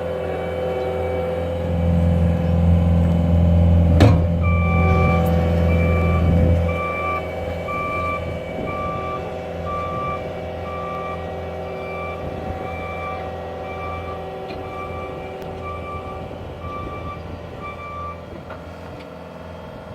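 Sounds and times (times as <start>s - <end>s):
reversing alarm beeping: 0.0s - 18.3s
diesel engine running: 0.0s - 19.9s.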